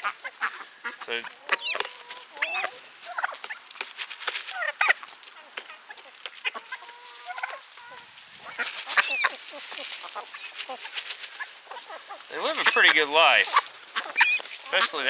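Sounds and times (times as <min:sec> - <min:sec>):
ducks and chickens calling: 0:00.0 - 0:15.0.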